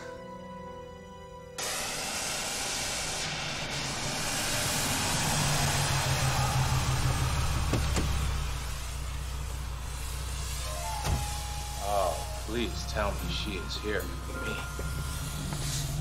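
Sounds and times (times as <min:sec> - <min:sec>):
car engine hum: 0:01.6 - 0:16.0
gas welding torch hissing: 0:01.6 - 0:16.0.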